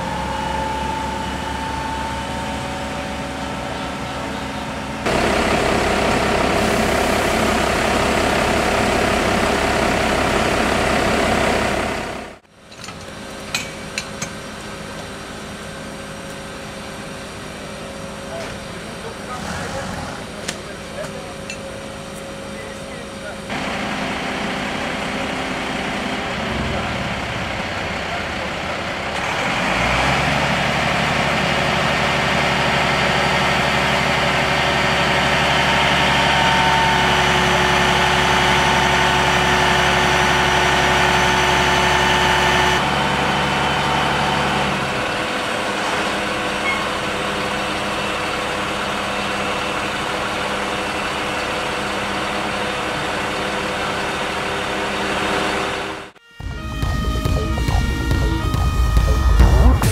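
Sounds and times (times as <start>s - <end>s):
diesel engine idling: 0.0s - 12.5s, 13.2s - 59.9s
loud steady machine hum: 0.0s - 12.5s, 13.1s - 59.9s.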